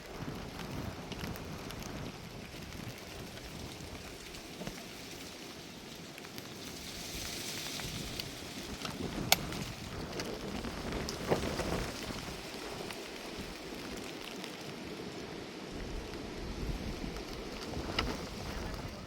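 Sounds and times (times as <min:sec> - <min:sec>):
wind buffeting microphone: 0:00.0 - 0:06.0, 0:06.9 - 0:19.0
steady rain: 0:00.0 - 0:19.0.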